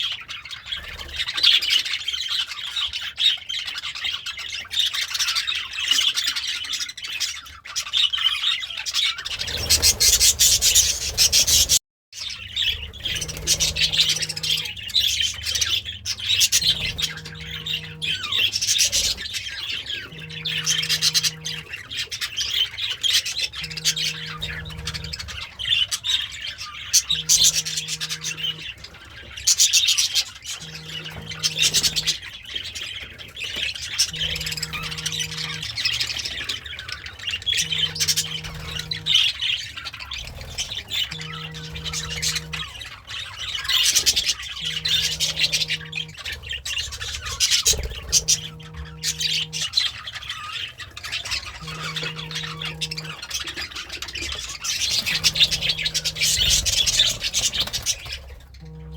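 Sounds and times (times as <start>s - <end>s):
budgerigar warbling and chattering: 0.0s - 58.9s.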